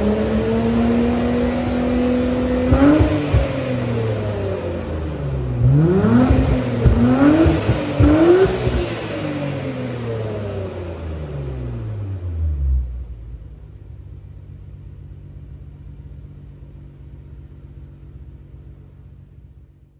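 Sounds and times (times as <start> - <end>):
car engine revving and idling: 0.0 - 19.9.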